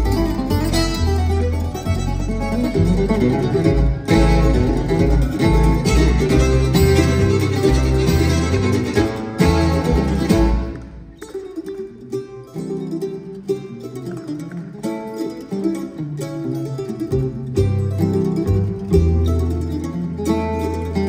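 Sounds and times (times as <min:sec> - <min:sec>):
acoustic string band playing: 0:00.0 - 0:21.0.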